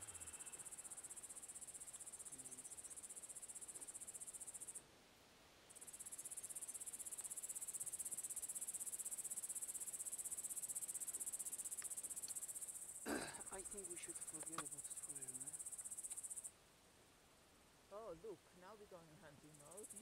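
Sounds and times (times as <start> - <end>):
insect chirring: 0.0 - 4.8, 5.7 - 16.5, 19.5 - 20.0.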